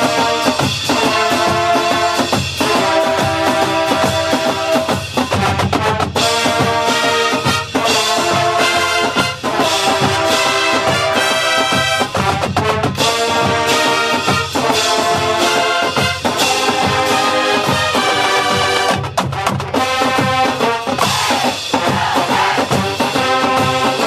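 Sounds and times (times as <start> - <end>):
marching band brass: 0.0 - 24.0
steady drum beats: 0.0 - 24.0.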